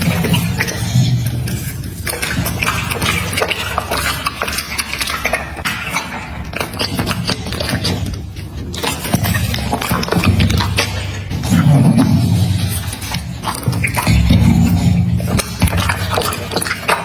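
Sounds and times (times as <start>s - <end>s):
dog chewing meat: 0.0s - 17.0s.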